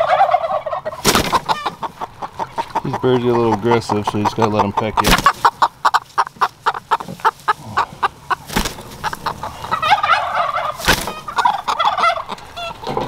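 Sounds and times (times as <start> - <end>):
poultry clucking: 0.0 - 13.0
poultry warbling calls: 0.0 - 13.0.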